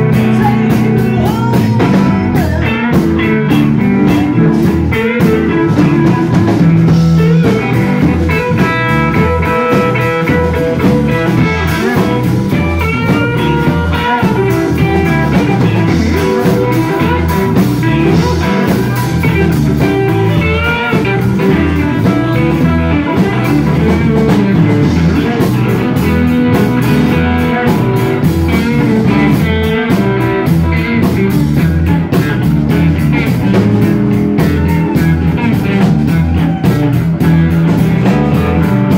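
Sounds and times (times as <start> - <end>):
bass guitar: 0.0 - 38.9
drum kit beat: 0.0 - 38.9
electric guitar lead: 0.0 - 38.9.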